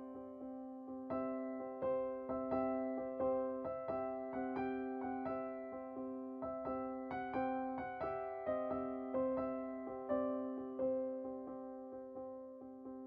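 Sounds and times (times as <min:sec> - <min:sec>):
soft electric piano music: 0:00.0 - 0:13.0.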